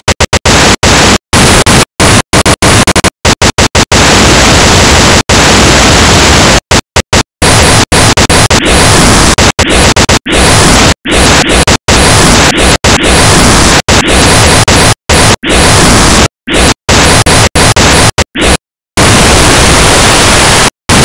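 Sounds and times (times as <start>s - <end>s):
loud harsh white noise: 0.0s - 21.0s.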